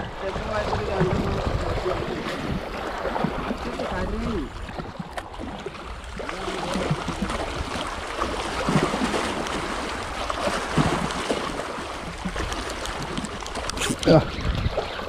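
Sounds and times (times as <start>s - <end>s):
waves lapping against rocks: 0.0s - 15.0s
wind buffeting microphone: 0.0s - 15.0s.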